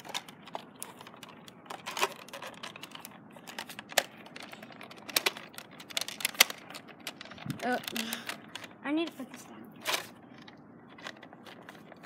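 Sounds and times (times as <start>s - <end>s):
plastic toy blaster clicks and rattles: 0.0s - 12.0s.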